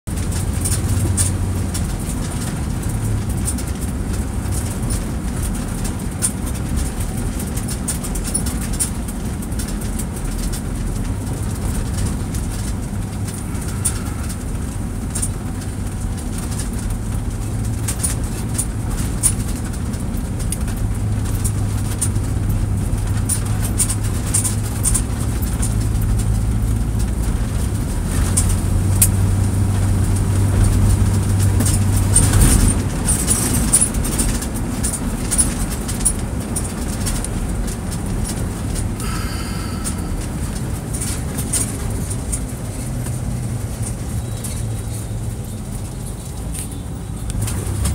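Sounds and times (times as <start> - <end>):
car engine hum: 0.1 - 47.9.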